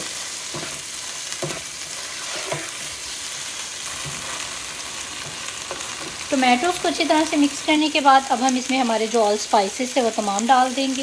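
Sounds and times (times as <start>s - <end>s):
tomatoes sizzling in hot oil: 0.0s - 11.0s.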